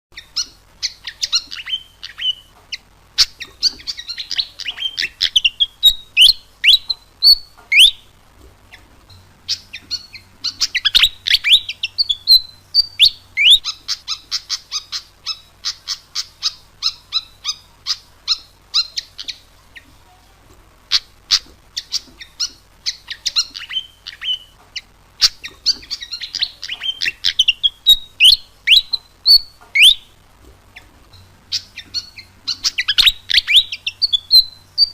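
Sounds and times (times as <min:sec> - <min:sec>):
bird singing chirps and trills: 0:00.2 - 0:08.1, 0:08.7 - 0:19.9, 0:20.9 - 0:30.2, 0:30.8 - 0:34.9.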